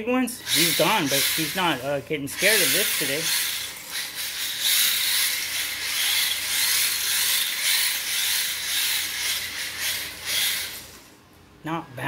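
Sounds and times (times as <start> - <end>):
toy car electric motor whirring: 0.4 - 11.2.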